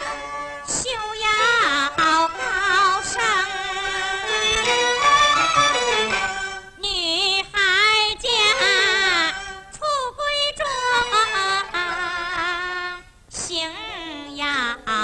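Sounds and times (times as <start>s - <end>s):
woman singing opera: 0.6s - 5.0s, 6.7s - 15.0s.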